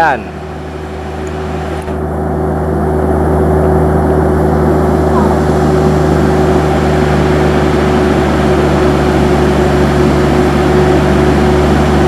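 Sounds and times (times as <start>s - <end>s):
diesel truck engine humming: 0.0s - 12.0s.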